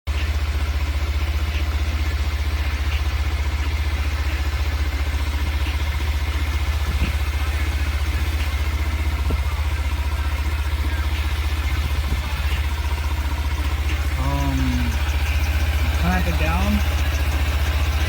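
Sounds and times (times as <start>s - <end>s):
motorcycle engine idling: 0.1s - 18.0s.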